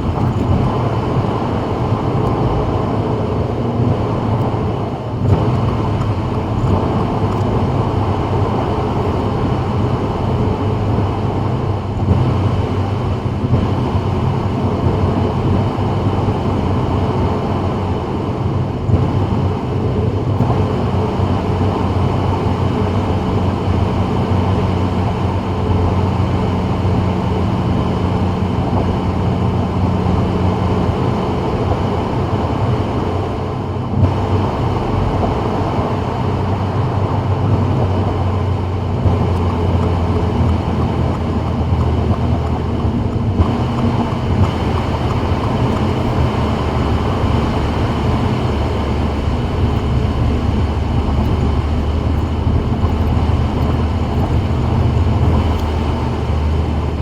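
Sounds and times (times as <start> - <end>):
car engine hum: 0.0 - 57.0
tyre and wind roar: 0.0 - 57.0.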